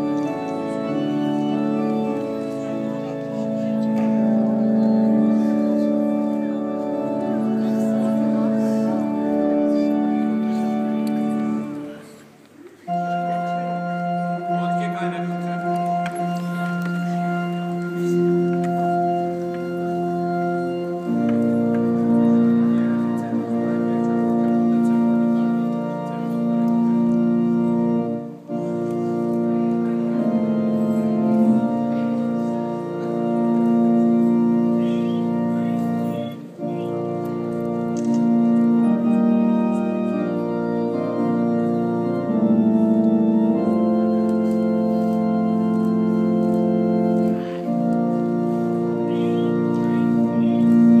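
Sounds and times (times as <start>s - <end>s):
organ playing held chords: 0.0s - 51.0s.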